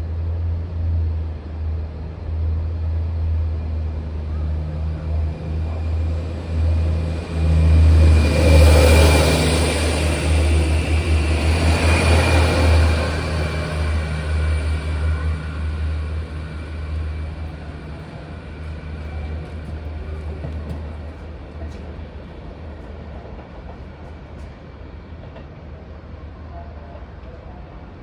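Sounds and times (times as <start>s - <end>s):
train rumbling away: 0.0s - 28.0s.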